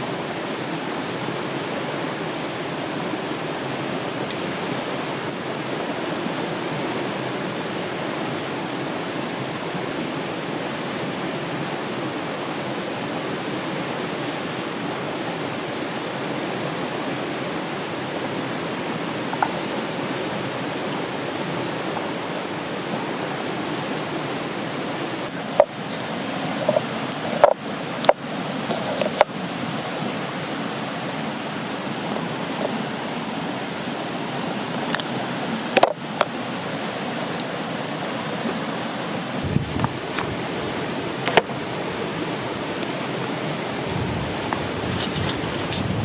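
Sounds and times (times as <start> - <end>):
river flowing over rocks: 0.0 - 46.0.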